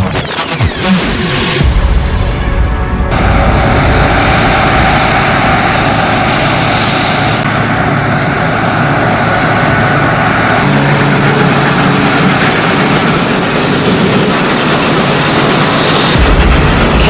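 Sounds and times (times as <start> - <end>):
combine harvester diesel engine: 1.6 - 17.0.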